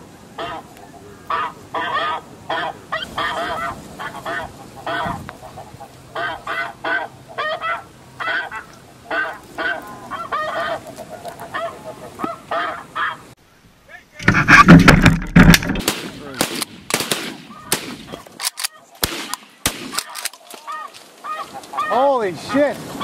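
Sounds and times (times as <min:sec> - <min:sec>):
geese calling: 0:00.4 - 0:13.4, 0:15.7 - 0:23.0.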